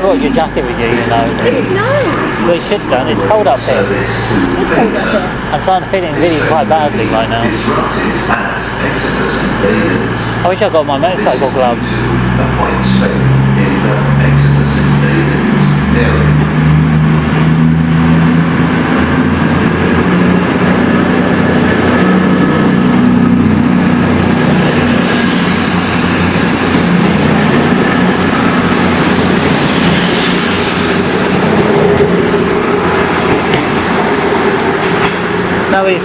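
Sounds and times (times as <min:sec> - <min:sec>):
high train whine: 0:00.0 - 0:36.0
passenger train running: 0:00.0 - 0:36.0.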